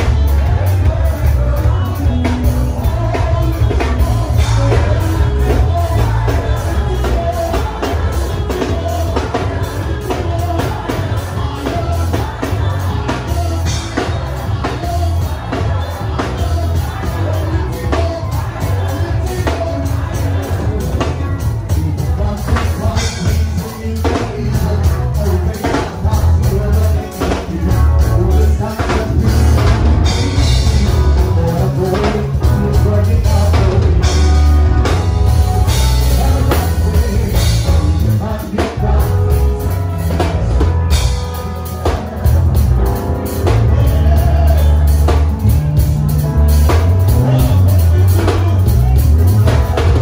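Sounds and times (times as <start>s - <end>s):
band music with singing: 0.0s - 50.0s.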